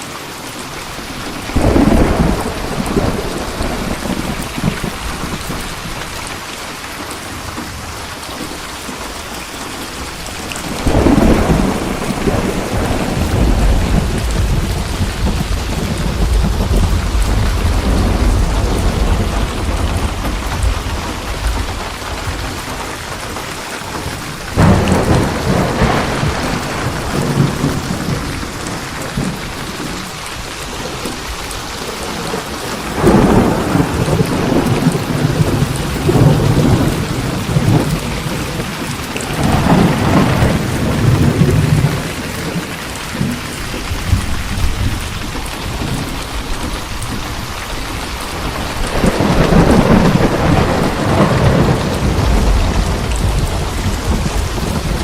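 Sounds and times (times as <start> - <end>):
heavy rain: 0.0 - 55.0
rolling thunder: 1.2 - 6.4, 9.9 - 55.0.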